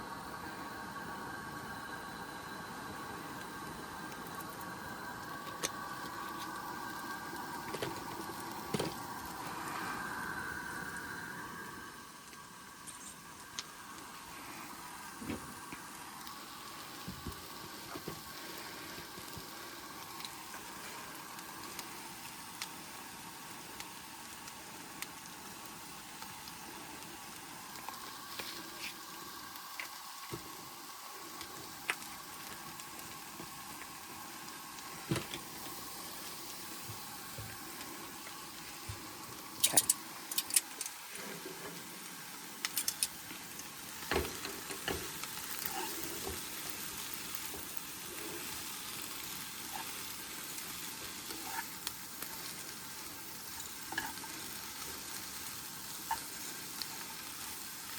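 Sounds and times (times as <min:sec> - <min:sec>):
vegetables sizzling in a pan: 0:00.0 - 0:57.9.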